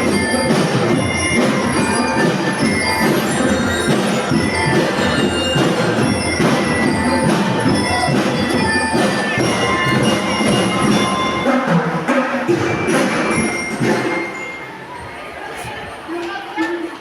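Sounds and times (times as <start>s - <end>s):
ringing bell notes: 0.0s - 11.7s, 12.7s - 15.2s
parade band drums: 0.0s - 14.8s.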